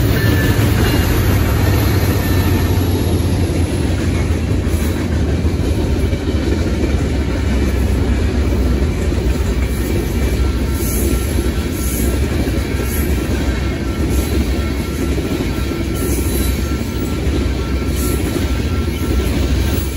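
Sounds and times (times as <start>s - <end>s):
freight train rumbling on rails: 0.0s - 19.9s.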